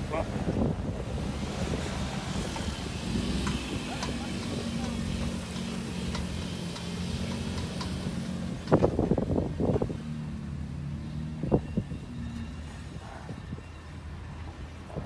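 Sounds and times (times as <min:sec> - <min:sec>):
truck engines humming: 0:00.0 - 0:15.0.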